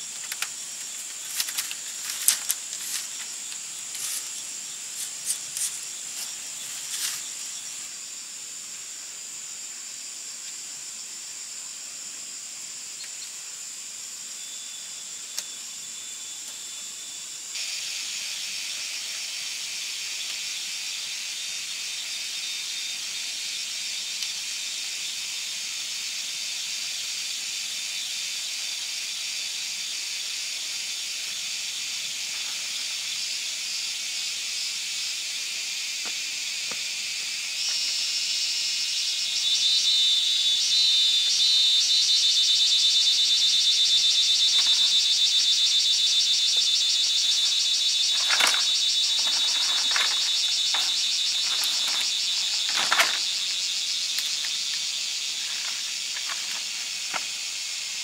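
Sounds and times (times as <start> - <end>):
insects droning: 0.0 - 58.0
rapidly pulsing insect call: 0.0 - 58.0.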